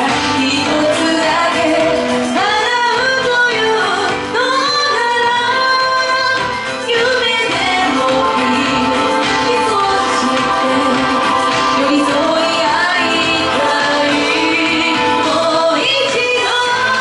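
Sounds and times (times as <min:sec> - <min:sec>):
musical accompaniment: 0:00.0 - 0:17.0
woman singing into microphone: 0:00.0 - 0:17.0.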